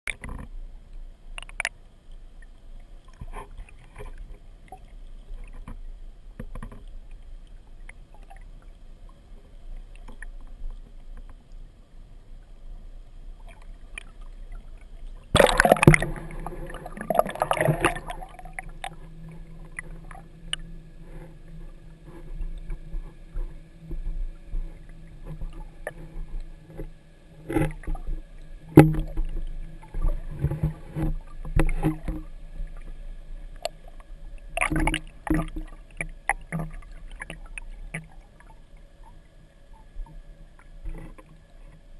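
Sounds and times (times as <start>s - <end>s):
boat and water noise: 0.1s - 41.9s
steady low hum: 0.2s - 41.9s.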